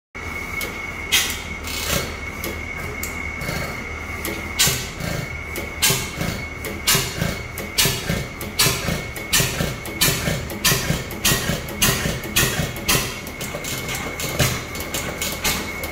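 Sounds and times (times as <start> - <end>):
engine mechanical clatter: 0.5 - 15.9.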